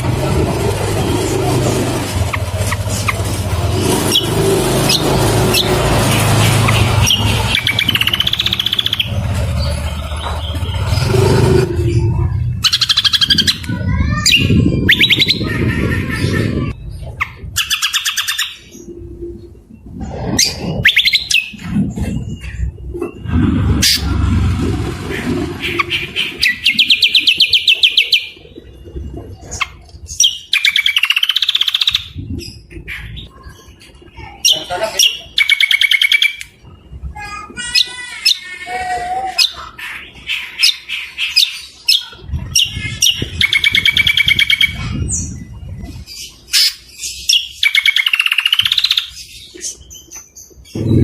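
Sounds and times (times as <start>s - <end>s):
songbirds singing trilled phrases: 0.0s - 24.2s, 24.8s - 51.0s.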